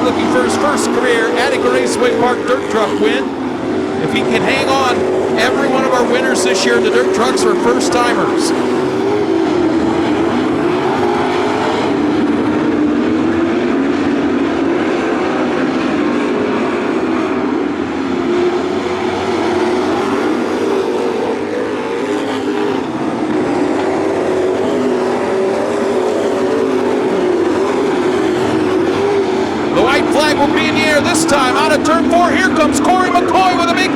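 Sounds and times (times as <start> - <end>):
race truck engines droning: 0.0 - 33.9.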